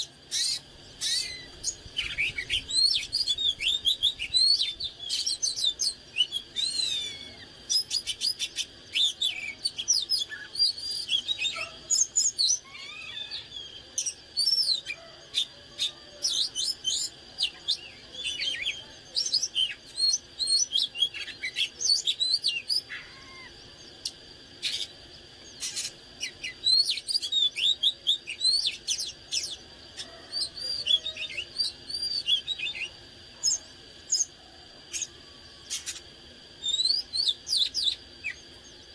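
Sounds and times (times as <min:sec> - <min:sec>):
bird singing whistled notes: 0:00.0 - 0:29.7, 0:30.3 - 0:34.3, 0:36.6 - 0:38.9.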